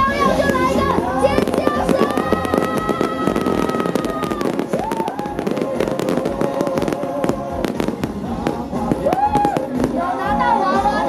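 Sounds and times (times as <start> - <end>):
fireworks popping and crackling: 0.0 - 11.0
music playing: 0.0 - 11.0.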